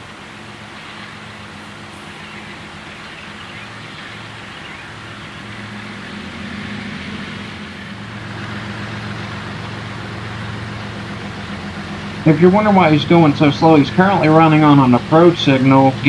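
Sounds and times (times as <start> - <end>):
distant diesel locomotive engine hum: 0.0 - 16.0.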